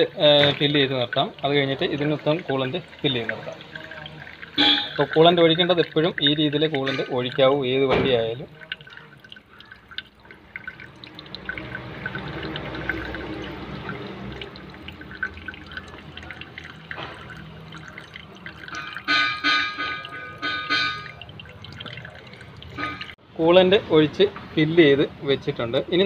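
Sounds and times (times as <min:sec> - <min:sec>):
liquid trickling from jug: 0:00.0 - 0:23.2.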